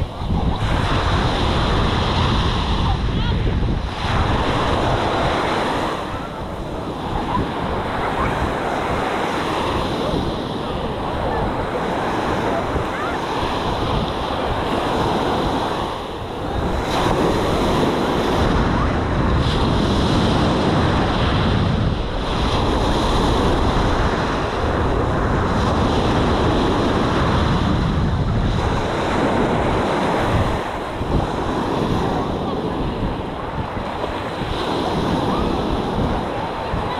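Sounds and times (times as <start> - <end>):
small ocean waves breaking: 0.0 - 36.9
wind buffeting the microphone: 0.0 - 36.9.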